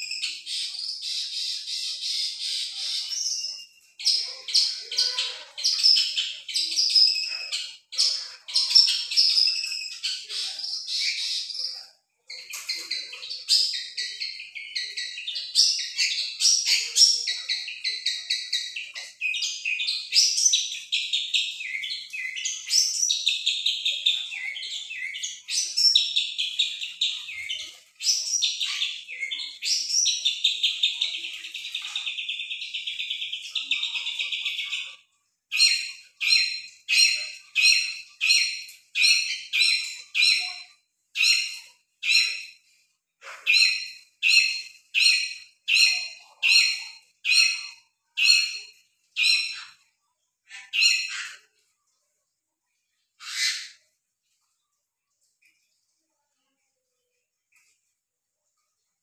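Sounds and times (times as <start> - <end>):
songbirds singing trills: 0.0 - 51.6.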